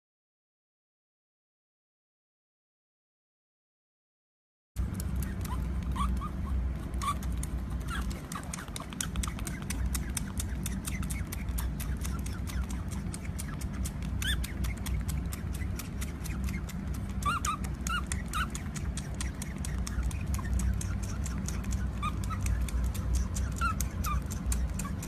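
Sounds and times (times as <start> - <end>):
otter pup squeaking: 4.8 - 25.0
wet sucking clicks: 4.8 - 25.0.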